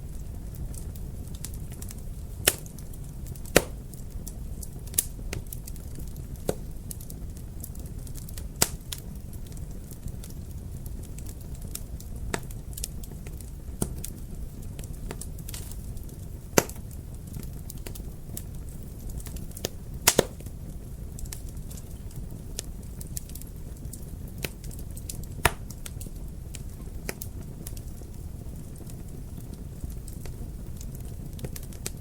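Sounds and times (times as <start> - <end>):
wood fire crackling in fireplace: 0.0 - 32.0.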